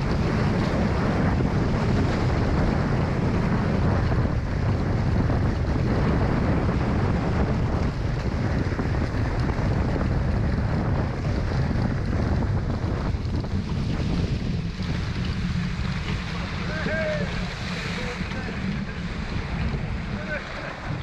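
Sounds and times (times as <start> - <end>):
water rushing and splashing: 0.0 - 21.0
wind buffeting microphone: 0.0 - 21.0.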